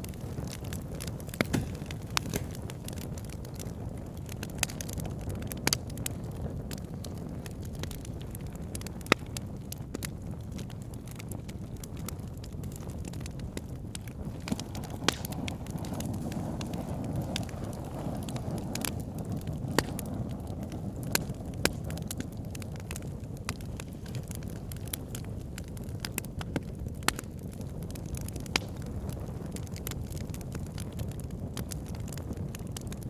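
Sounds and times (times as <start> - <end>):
fire crackling and popping: 0.0 - 33.0
fire rumbling in fireplace: 0.0 - 33.0.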